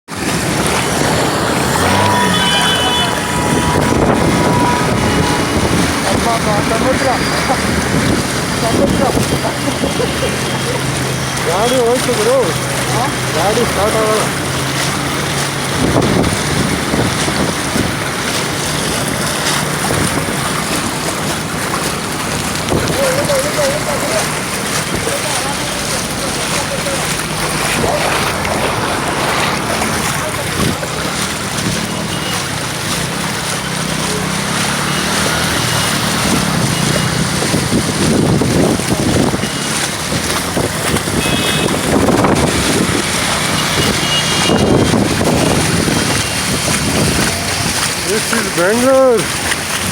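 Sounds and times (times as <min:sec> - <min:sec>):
heavy rain pouring: 0:00.1 - 0:49.9
traffic moving through water: 0:00.1 - 0:49.9
vehicle engines running: 0:00.1 - 0:49.9.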